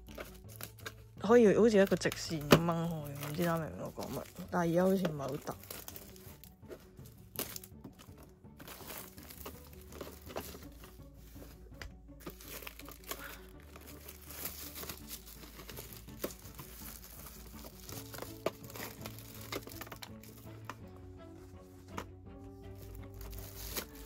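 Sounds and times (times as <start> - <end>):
plastic film crinkling: 0.0 - 24.0
soft background music: 0.0 - 24.0.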